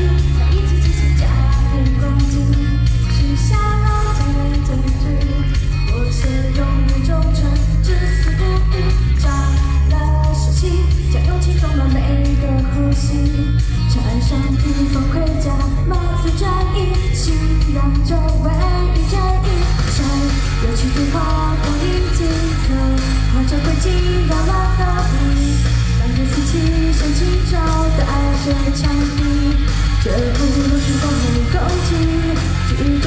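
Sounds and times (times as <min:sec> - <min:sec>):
loud backing music with bass: 0:00.0 - 0:33.0
woman singing into microphone: 0:00.0 - 0:33.0.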